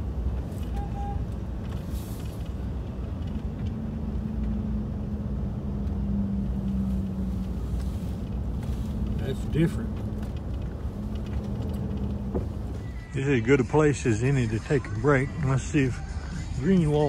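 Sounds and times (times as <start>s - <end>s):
vehicle engine and tyres rumbling: 0.0s - 17.0s.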